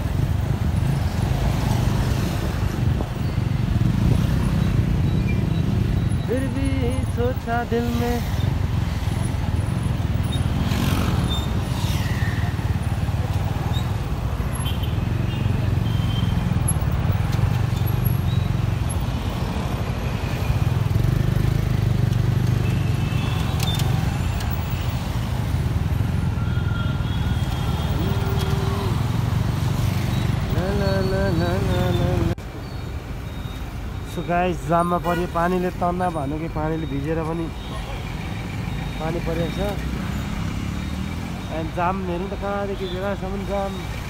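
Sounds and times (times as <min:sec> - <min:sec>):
street traffic: 0:00.0 - 0:44.0.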